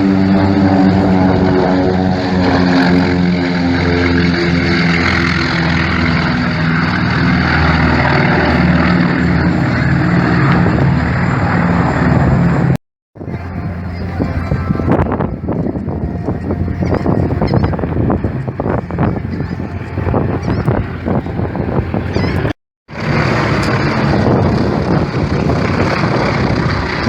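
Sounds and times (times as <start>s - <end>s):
gusty wind noise: 0.0s - 27.0s
jet engine roaring: 0.0s - 27.0s.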